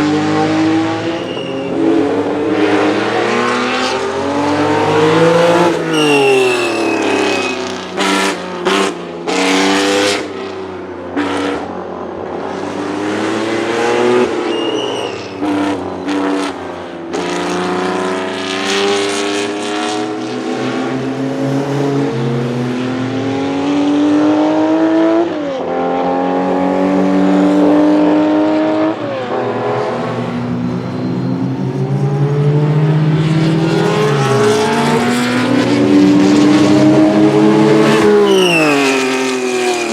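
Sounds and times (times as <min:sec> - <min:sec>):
racing engine revving: 0:00.0 - 0:10.6, 0:12.4 - 0:39.9.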